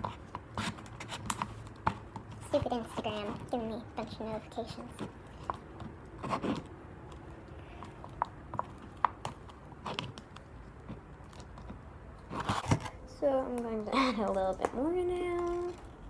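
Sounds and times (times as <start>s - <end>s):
slime being stirred in a cup: 0.0s - 16.0s.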